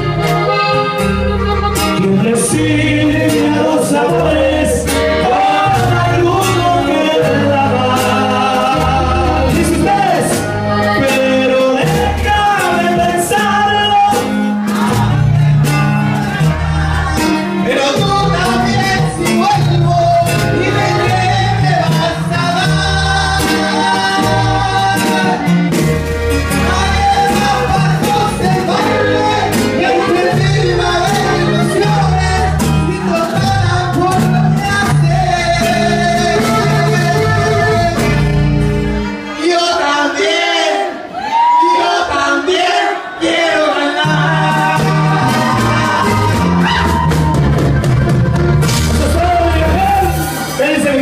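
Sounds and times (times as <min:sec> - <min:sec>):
electric bass: 0:00.0 - 0:39.4, 0:43.9 - 0:51.0
live latin band music: 0:00.0 - 0:51.0
person singing: 0:01.8 - 0:25.7, 0:26.3 - 0:38.5, 0:39.2 - 0:47.5.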